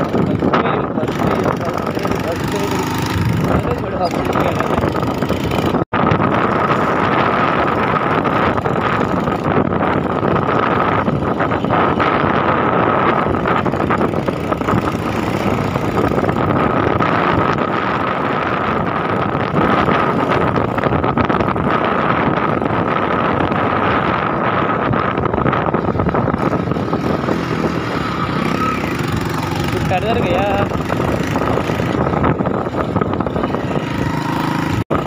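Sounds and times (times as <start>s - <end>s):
motorcycle engine running: 0.0s - 35.0s
wind rush on microphone: 0.0s - 35.0s.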